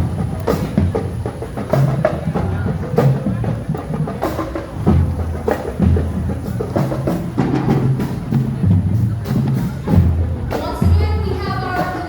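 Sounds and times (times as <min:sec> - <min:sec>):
marching drumline playing: 0:00.0 - 0:12.0.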